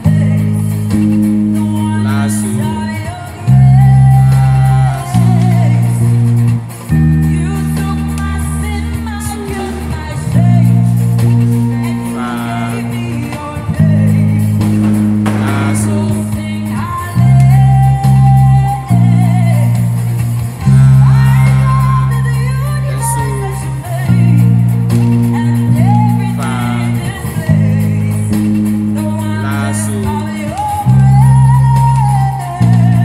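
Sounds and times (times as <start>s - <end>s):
electric bass holding low notes: 0.0s - 33.0s
recorded gospel song with singing: 0.0s - 33.0s.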